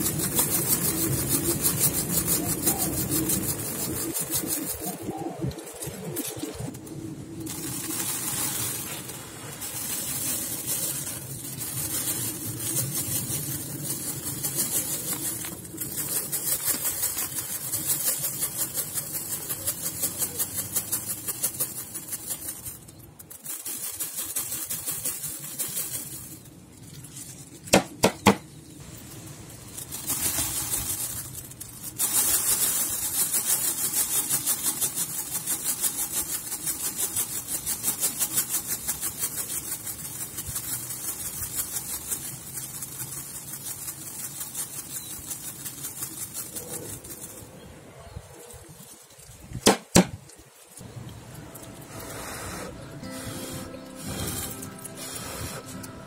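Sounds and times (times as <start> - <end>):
seeds rattling in plastic basin: 0.0 - 53.0, 53.6 - 56.0.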